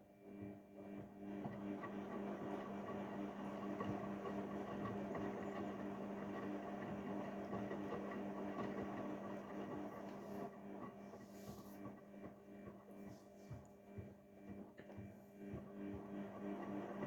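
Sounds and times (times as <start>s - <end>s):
washing machine motor hum: 0.5s - 17.0s.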